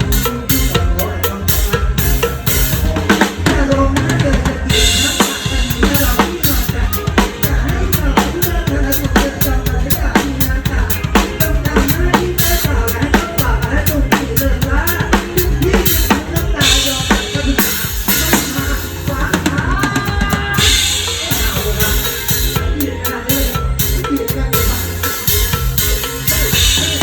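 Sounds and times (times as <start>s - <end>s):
band playing: 0.0s - 27.0s
drum kit kick and snare: 0.0s - 27.0s.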